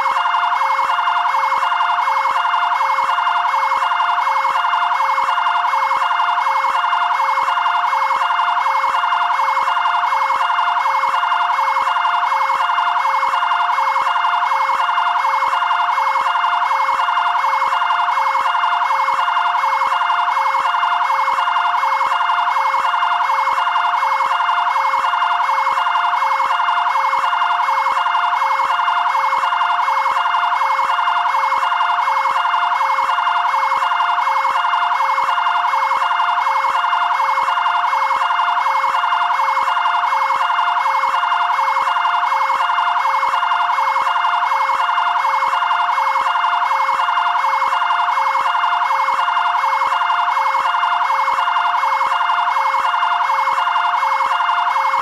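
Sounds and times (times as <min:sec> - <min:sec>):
two-tone fire siren: 0:00.0 - 0:55.0.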